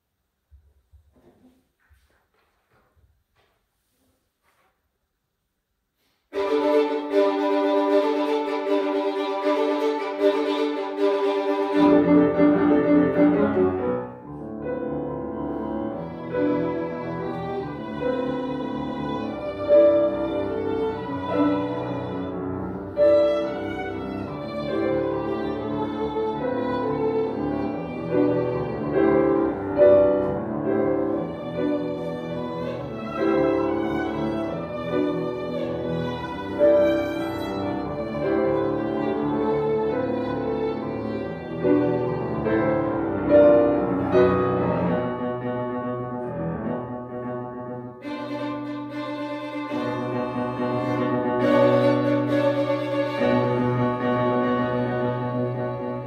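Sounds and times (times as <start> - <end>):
violin melody: 6.3 - 56.0
piano chords: 6.4 - 56.0.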